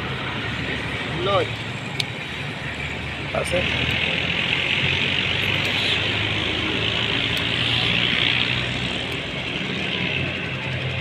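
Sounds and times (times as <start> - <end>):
engine running drone: 0.0 - 11.0.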